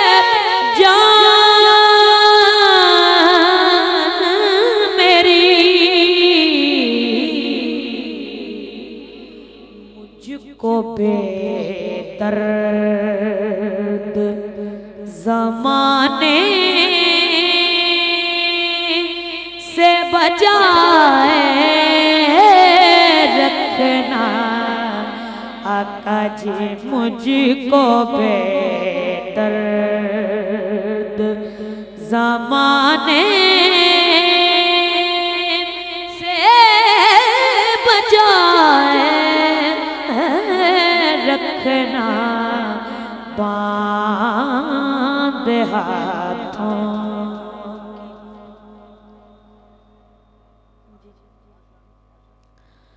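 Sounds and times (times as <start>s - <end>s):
boy singing into a microphone: 0.0s - 8.9s, 9.8s - 14.4s, 15.0s - 48.9s.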